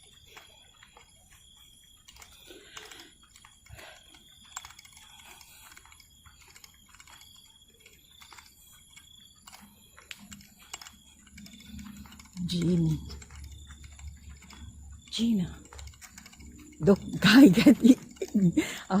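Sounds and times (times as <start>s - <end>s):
faint clicking and ticking: 0.0s - 19.0s
thin high steady tone: 0.0s - 19.0s.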